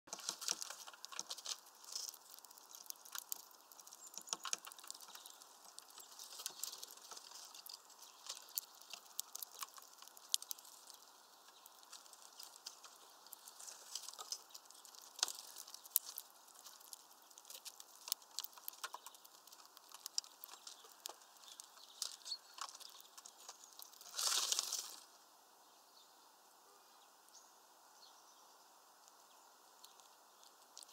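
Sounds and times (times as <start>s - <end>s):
birds cracking seeds: 0.1s - 25.2s, 28.8s - 30.9s
faint hiss: 0.3s - 30.9s.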